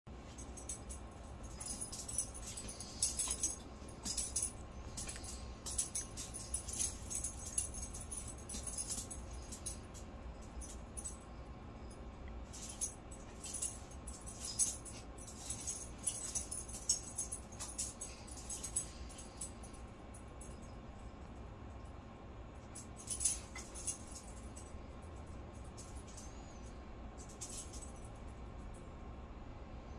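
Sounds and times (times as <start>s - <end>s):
pet collar jingling: 0.2s - 21.1s, 22.6s - 28.9s.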